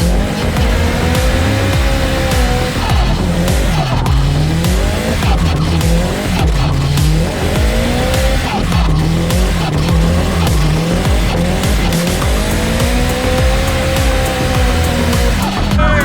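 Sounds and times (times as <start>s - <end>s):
car engine revving hard: 0.0s - 16.0s
tyres squealing: 0.0s - 16.0s.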